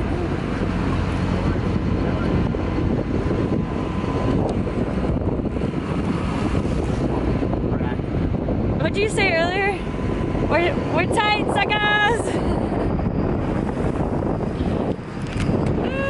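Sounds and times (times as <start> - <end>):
boat engine running: 0.0 - 16.0
sea noise: 0.0 - 16.0
wind buffeting microphone: 0.0 - 16.0.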